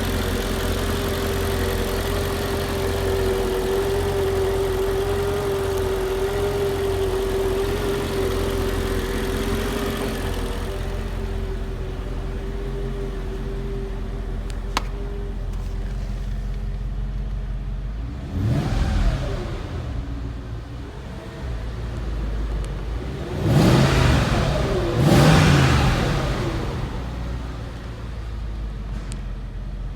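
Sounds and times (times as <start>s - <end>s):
engine revving: 0.0s - 16.6s, 17.9s - 27.4s
supercharger whine: 0.0s - 29.2s
car engine idling: 0.0s - 29.9s.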